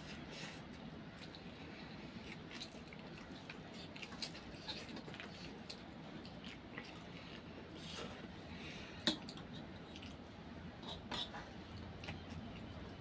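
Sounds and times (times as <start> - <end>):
slurping and chewing: 0.0 - 13.0.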